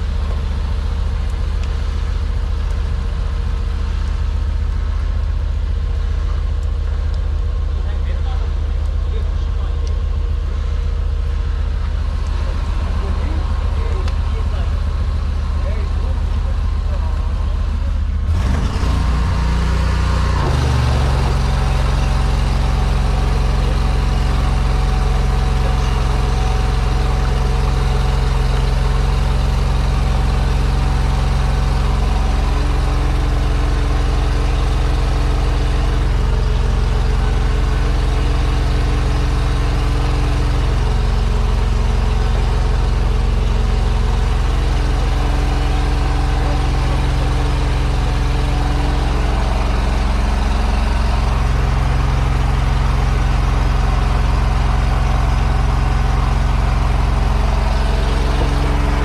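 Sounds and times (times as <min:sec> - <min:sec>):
drain jetter engine running: 0:00.0 - 0:59.0.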